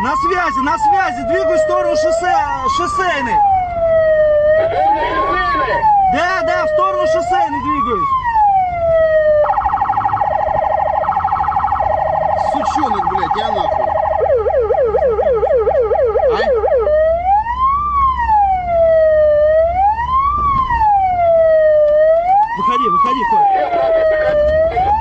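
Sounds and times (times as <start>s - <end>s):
engine and road rumble: 0.0s - 25.0s
police siren wailing and yelping: 0.0s - 25.0s.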